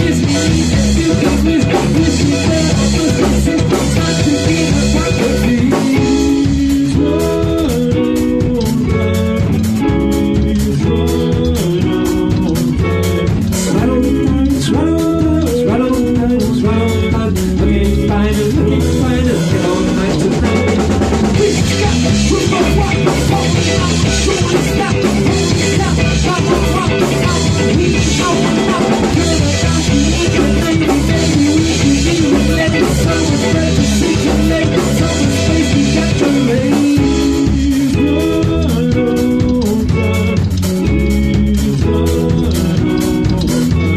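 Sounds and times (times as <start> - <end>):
drum kit: 0.0 - 43.9
guitar and bass riff: 0.0 - 43.9.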